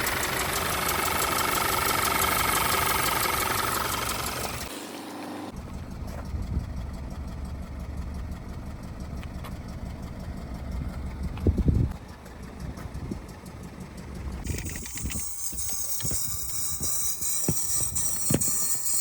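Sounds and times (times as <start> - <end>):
car engine idling with misfire: 0.0 - 19.0.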